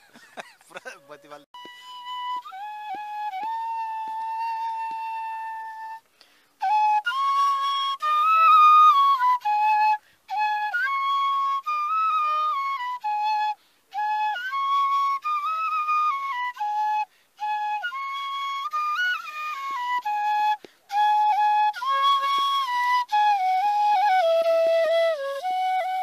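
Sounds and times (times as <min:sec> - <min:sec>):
bamboo flute melody: 0:00.8 - 0:26.0.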